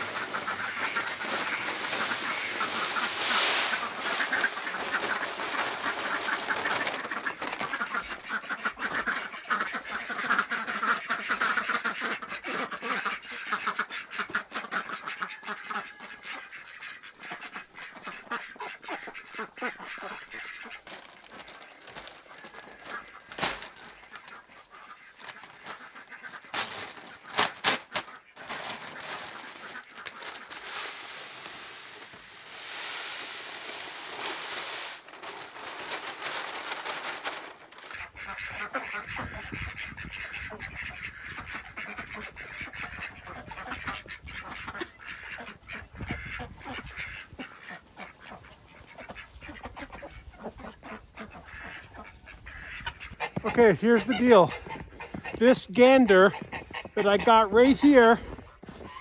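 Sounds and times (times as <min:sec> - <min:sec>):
ducks quacking: 0:00.0 - 0:59.0
geese honking: 0:00.0 - 0:59.0.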